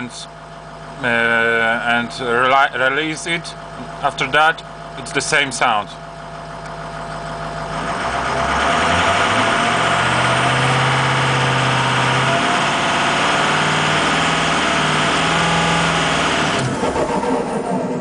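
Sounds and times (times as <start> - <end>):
diesel engine revving: 0.0 - 18.0
turbocharger whine: 0.0 - 18.0.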